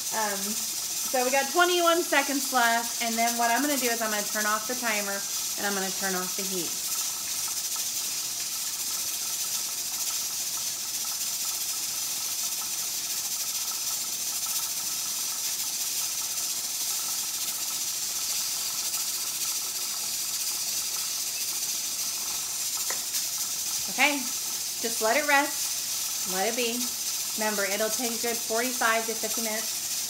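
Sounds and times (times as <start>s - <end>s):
steam hissing from pressure canner: 0.0s - 30.0s.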